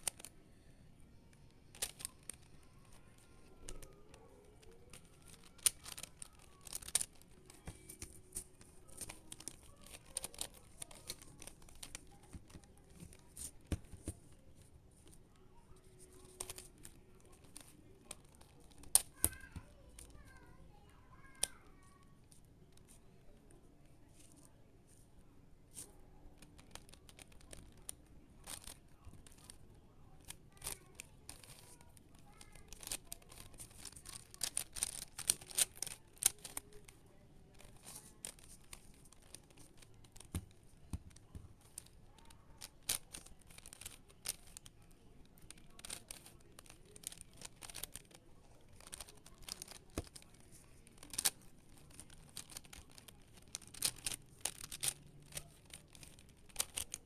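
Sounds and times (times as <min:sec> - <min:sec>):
plastic cube clicking: 0:01.7 - 0:14.3, 0:16.0 - 0:19.7, 0:25.7 - 0:29.6, 0:30.2 - 0:37.0, 0:37.6 - 0:44.7, 0:45.3 - 0:57.0.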